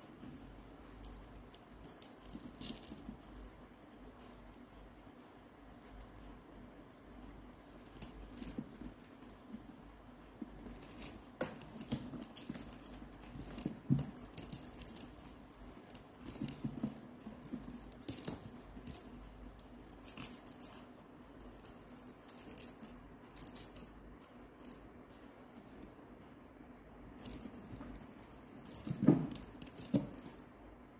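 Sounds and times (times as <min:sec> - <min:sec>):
small bell jingling: 0:00.0 - 0:04.9, 0:05.7 - 0:09.6, 0:10.6 - 0:24.9, 0:27.2 - 0:30.6.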